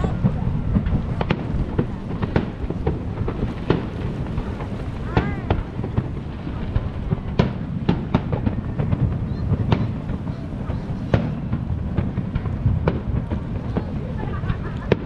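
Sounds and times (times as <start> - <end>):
fireworks bangs: 0.0 - 15.0
low background rumble: 0.0 - 15.0.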